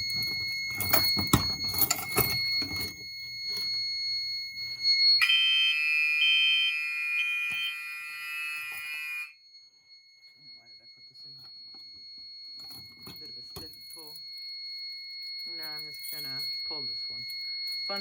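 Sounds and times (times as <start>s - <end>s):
fire alarm horns sounding: 0.0s - 12.2s, 15.4s - 18.0s.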